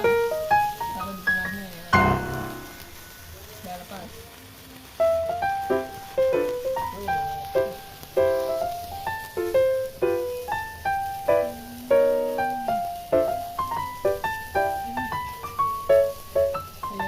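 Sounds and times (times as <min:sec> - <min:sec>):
piano music: 0:00.0 - 0:04.0, 0:04.9 - 0:17.0.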